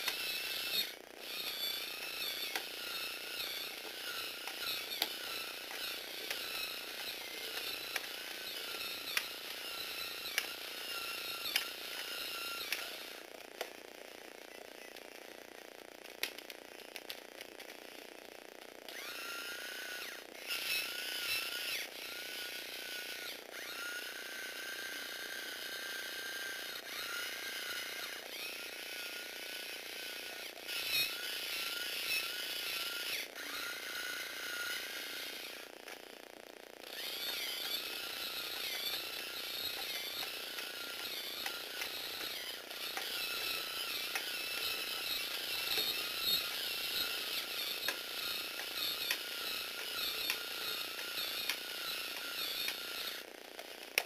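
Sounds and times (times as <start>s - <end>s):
small electric motor whirring: 0.0s - 54.0s.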